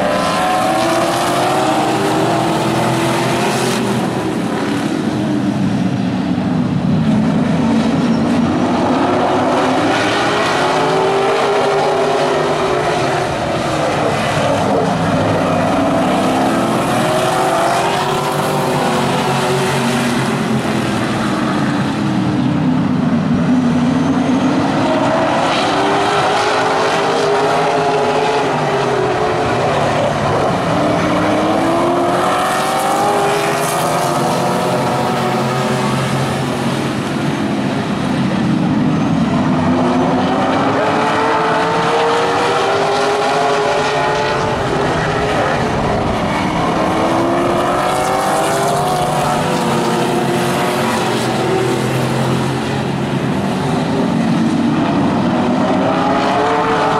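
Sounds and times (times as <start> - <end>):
race car engines at full throttle: 0.0 - 56.9.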